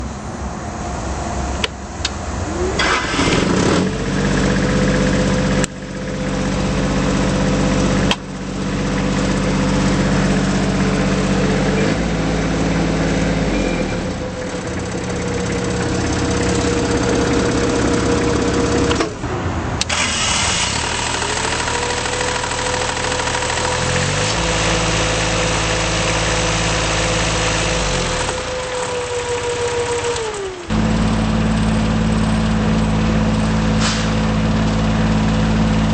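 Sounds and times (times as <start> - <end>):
diesel engine revving: 2.0 - 35.9.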